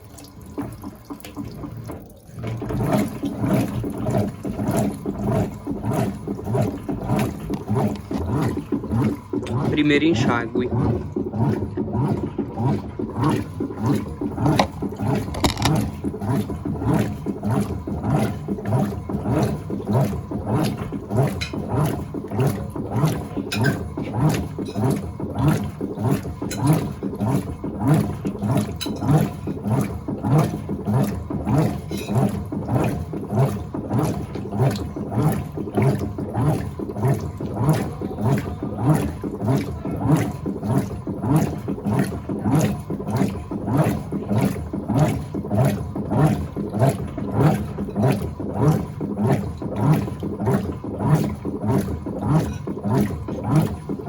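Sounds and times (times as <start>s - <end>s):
washing machine agitating: 0.0s - 54.0s.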